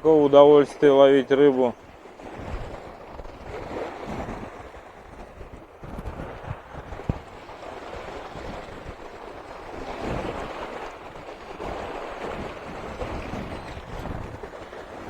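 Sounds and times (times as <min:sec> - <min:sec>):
gusty wind buffeting microphone: 0:00.0 - 0:15.0
waves washing onto shore: 0:00.0 - 0:15.0.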